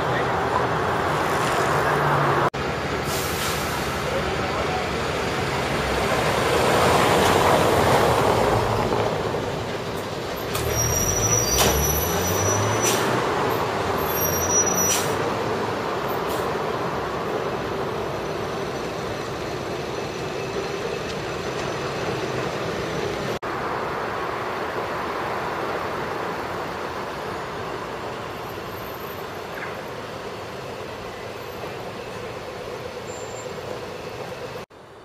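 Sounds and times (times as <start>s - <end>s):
city street traffic rumble: 0.0s - 35.0s.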